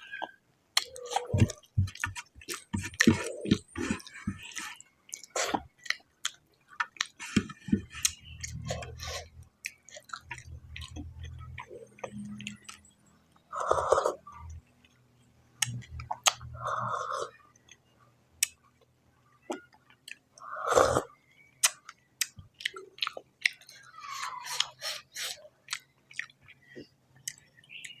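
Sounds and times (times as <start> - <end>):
person chewing with wet smacks: 0.1 - 15.0, 15.6 - 16.6, 17.3 - 28.0.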